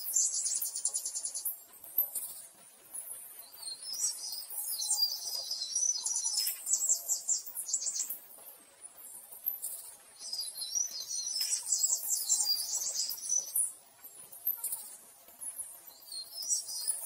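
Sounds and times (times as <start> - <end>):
birdsong chirps and trills: 0.0 - 17.0.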